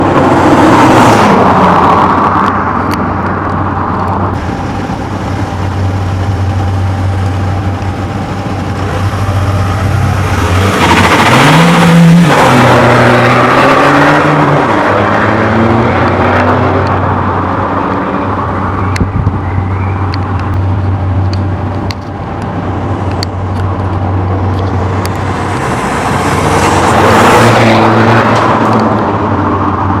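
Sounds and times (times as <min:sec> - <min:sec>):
loud diesel engine drone: 0:04.4 - 0:30.0.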